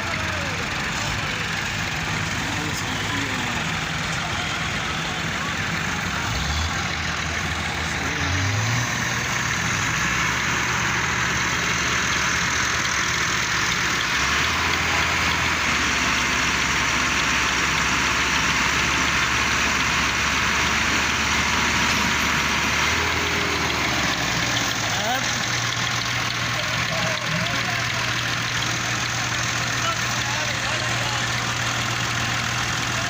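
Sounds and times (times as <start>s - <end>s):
tractor diesel engines running: 0.0s - 33.0s.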